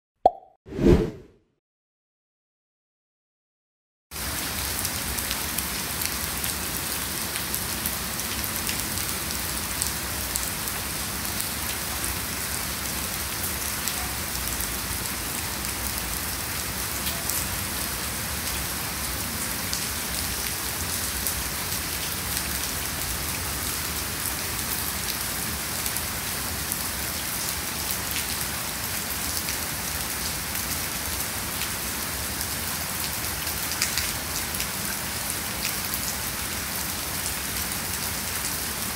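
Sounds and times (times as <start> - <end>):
heavy rain falling: 4.2 - 38.9.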